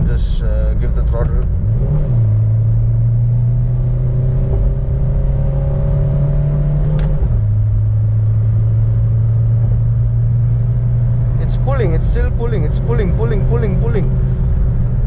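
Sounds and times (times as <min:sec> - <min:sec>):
turbodiesel engine pulling hard: 0:00.0 - 0:15.0.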